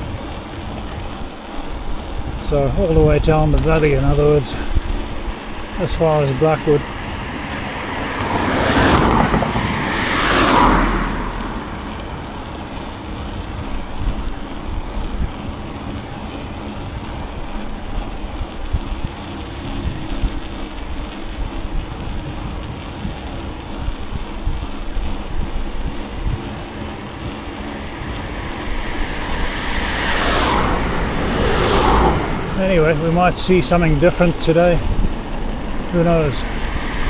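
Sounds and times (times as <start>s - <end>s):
road noise: 0.0s - 37.0s
traffic passing close by: 0.0s - 37.0s
wind rushing over microphone: 0.0s - 37.0s.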